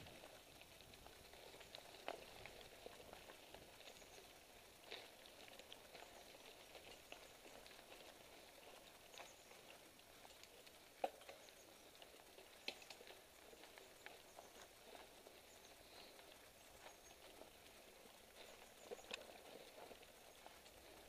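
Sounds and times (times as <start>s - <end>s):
bike tyres rolling over leaves: 0.0s - 21.0s.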